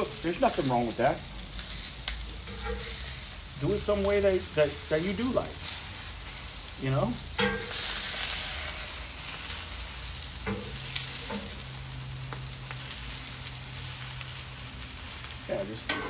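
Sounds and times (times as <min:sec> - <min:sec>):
sausages sizzling on a griddle: 0:00.0 - 0:16.0.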